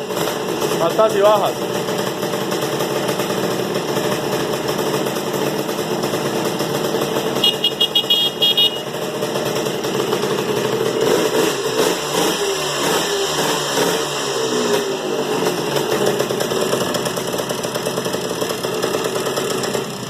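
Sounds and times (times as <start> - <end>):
two-stroke engine idling: 0.0 - 20.0.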